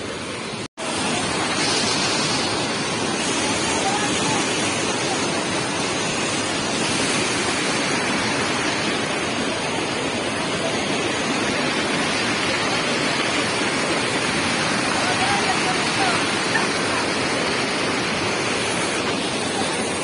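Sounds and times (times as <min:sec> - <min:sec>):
stream rushing over boulders: 0:00.0 - 0:20.0.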